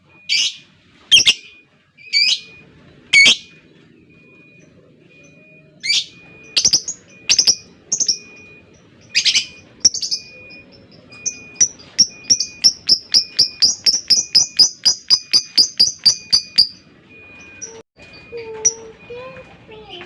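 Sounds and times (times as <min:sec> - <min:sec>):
bird squeaky chirping: 0:00.3 - 0:03.7, 0:04.6 - 0:17.8.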